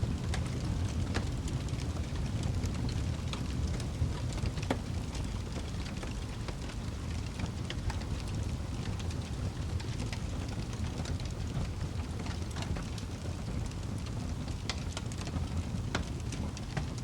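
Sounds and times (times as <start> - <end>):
wood fire crackling in fireplace: 0.0 - 17.0.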